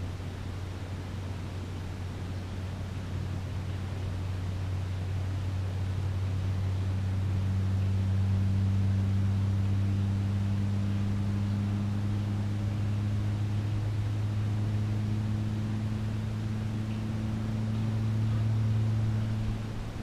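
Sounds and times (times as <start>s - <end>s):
faint outdoor hiss: 0.0s - 20.0s
machine droning: 0.0s - 20.0s.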